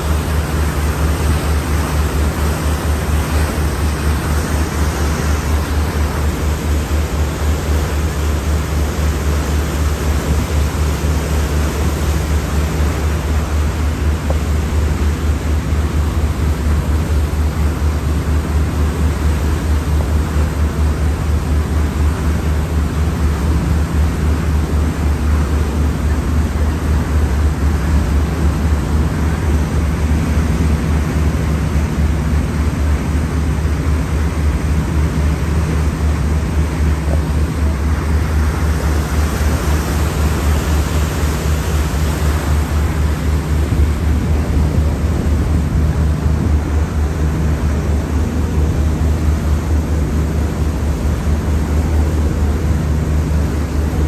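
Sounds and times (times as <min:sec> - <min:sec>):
boat engine droning: 0:00.0 - 0:54.0
water churning in wake: 0:00.0 - 0:54.0.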